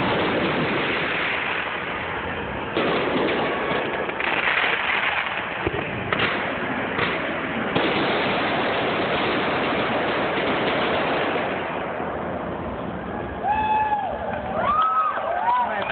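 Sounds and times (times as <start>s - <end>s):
fireworks bangs: 0.0s - 13.6s
fireworks crackle: 0.0s - 13.6s.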